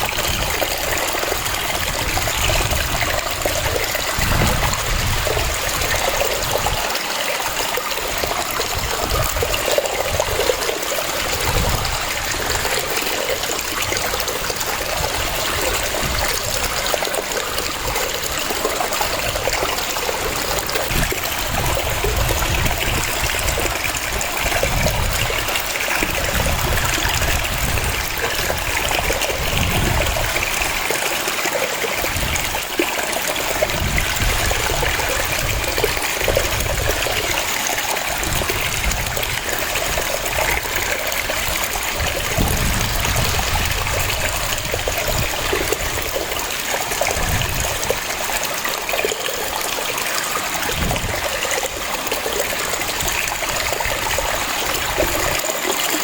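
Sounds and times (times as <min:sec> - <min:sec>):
waterfall cascading: 0:00.0 - 0:56.0.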